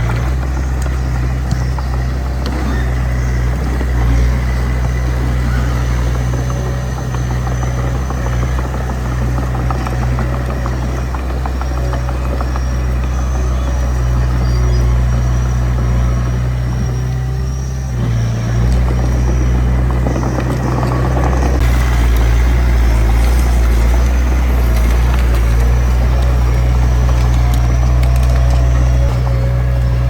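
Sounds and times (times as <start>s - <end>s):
bulldozer diesel engine: 0.0s - 30.0s
light rattling: 0.0s - 30.0s.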